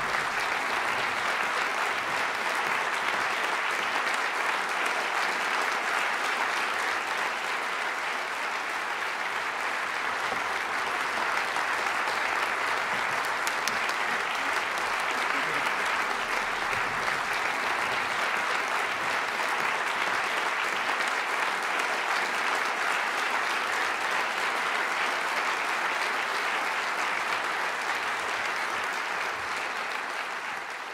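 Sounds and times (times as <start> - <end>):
audience applauding: 0.0 - 30.9.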